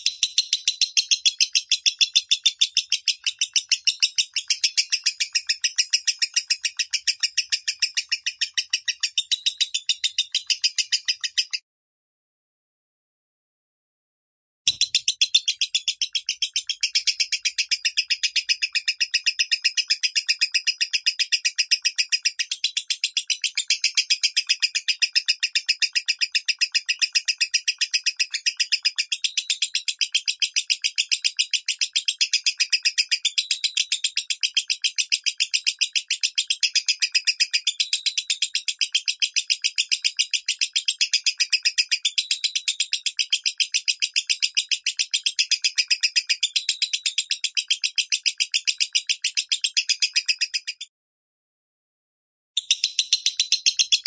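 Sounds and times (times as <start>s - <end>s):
lovebird chattering trill: 0.0s - 11.6s, 14.7s - 50.9s, 52.6s - 54.0s.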